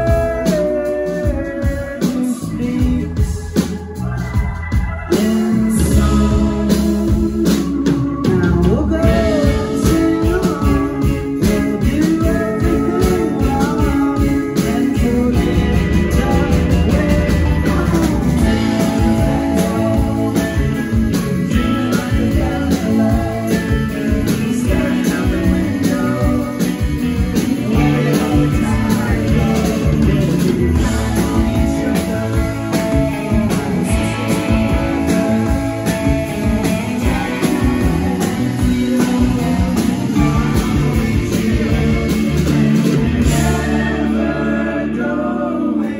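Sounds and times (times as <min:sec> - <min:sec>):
steady drum beat: 0:00.0 - 0:45.0
bass guitar: 0:00.0 - 0:45.9
electric guitar: 0:00.0 - 0:45.9
keyboard: 0:00.0 - 0:45.9.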